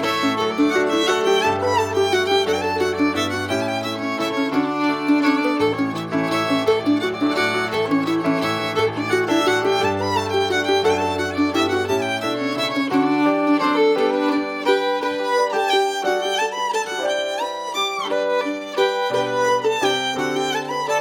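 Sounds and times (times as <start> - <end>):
violin melody: 0.0 - 21.0.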